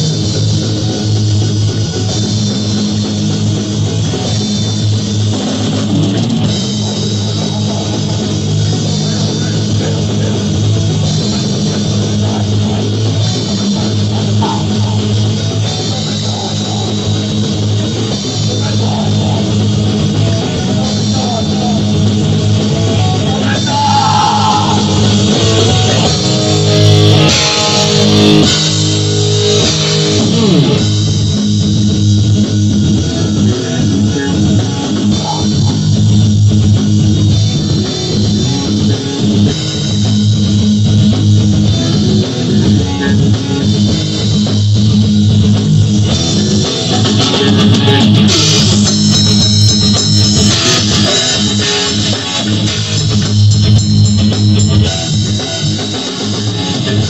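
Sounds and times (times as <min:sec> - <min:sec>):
heavy metal music: 0:00.0 - 0:57.0.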